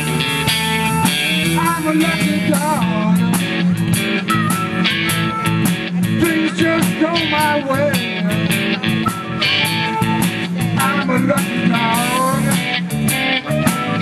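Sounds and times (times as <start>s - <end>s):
amplified blues harmonica: 0.0s - 14.0s
bass: 0.0s - 14.0s
electric guitar: 0.0s - 14.0s
steady drum beat: 0.0s - 14.0s.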